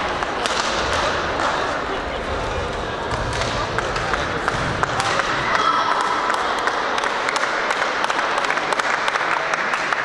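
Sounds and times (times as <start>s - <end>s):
sports hall background noise: 0.0s - 10.0s.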